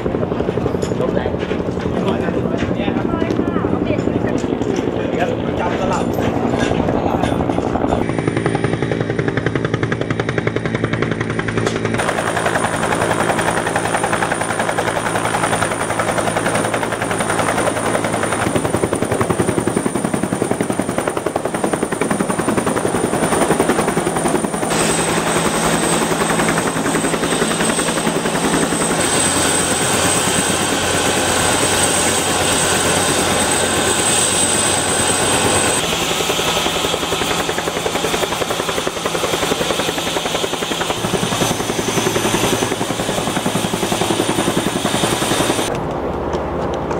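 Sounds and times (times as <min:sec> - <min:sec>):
helicopter turbine and rotor: 0:00.0 - 0:46.9.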